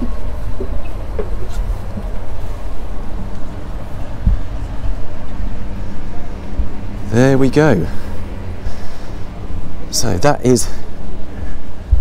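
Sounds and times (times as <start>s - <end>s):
low rumble and hum: 0.0s - 12.0s.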